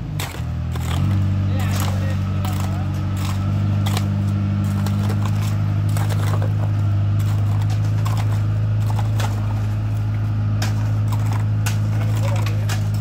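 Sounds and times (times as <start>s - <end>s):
diesel engine humming: 0.0s - 13.0s
knocks and clatter: 0.0s - 13.0s.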